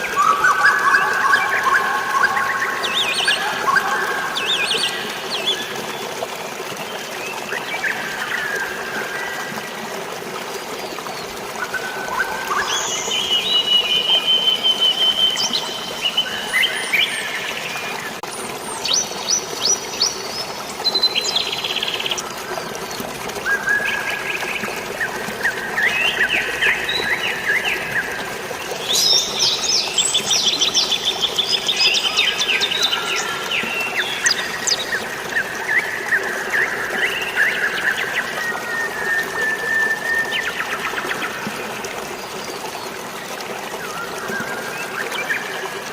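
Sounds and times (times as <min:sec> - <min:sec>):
birds singing and chirping: 0:00.0 - 0:06.2, 0:10.7 - 0:41.4
running water hiss: 0:00.0 - 0:45.9.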